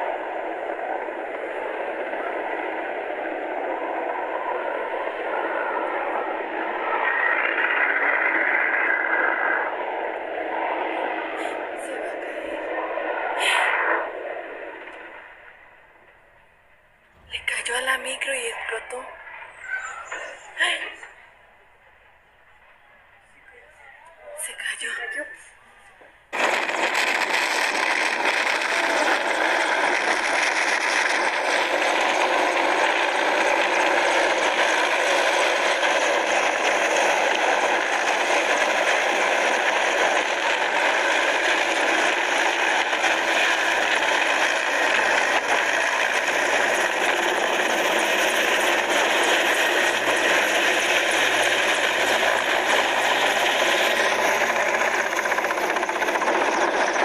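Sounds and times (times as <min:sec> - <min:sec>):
helicopter flying low: 0:00.0 - 0:57.0.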